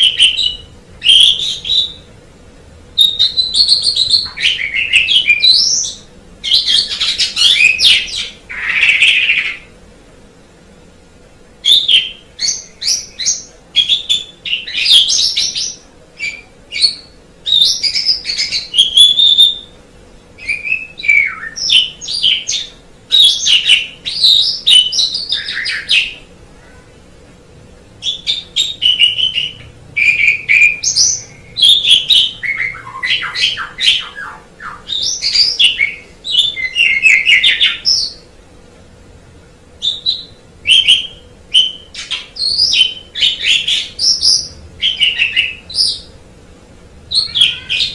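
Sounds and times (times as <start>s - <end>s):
starling singing: 0.0s - 2.2s, 3.0s - 9.8s, 11.6s - 19.8s, 20.4s - 26.3s, 27.9s - 38.3s, 39.8s - 46.2s, 47.0s - 47.9s.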